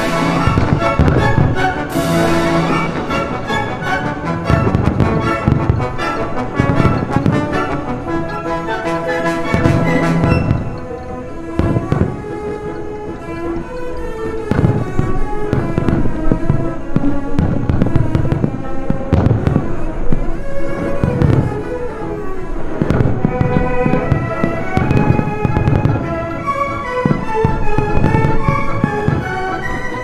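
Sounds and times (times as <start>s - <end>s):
fireworks bursting: 0.0s - 30.0s
orchestral music: 0.0s - 30.0s.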